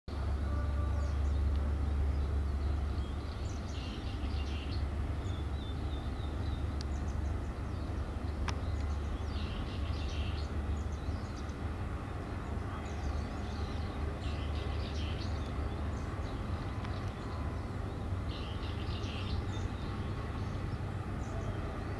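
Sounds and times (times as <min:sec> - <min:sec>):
birds chirping: 0:00.1 - 0:21.9
steady low rumble: 0:00.1 - 0:21.9.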